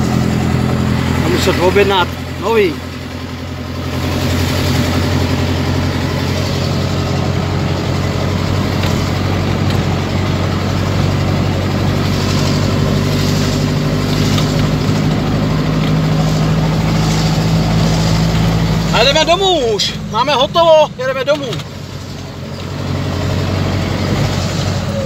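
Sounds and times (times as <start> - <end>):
diesel truck engine under load: 0.0 - 25.0.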